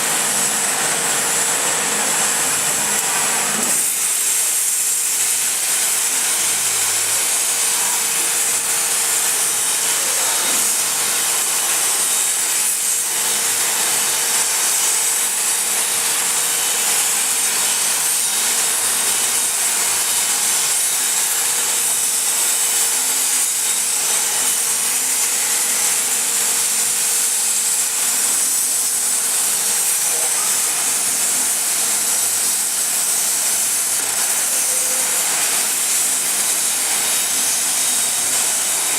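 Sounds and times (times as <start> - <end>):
plasma torch hissing: 0.0 - 38.9.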